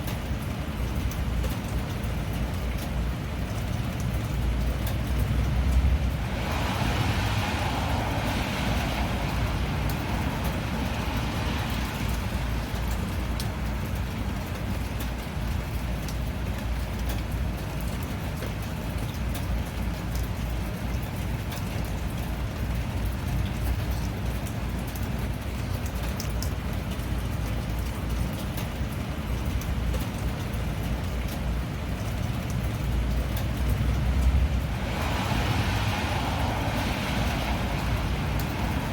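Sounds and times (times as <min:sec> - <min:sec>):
rain drops ticking: 0:00.0 - 0:38.9
steady rain: 0:00.0 - 0:38.9
traffic on wet road: 0:00.0 - 0:38.9.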